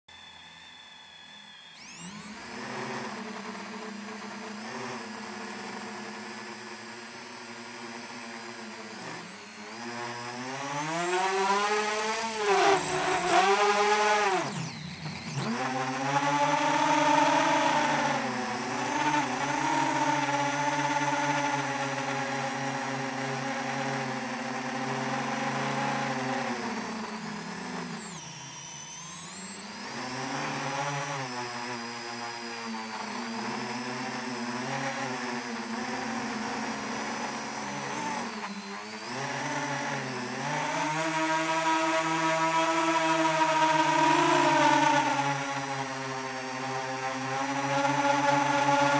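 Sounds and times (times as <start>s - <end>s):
drone motors whining: 0.1s - 48.9s.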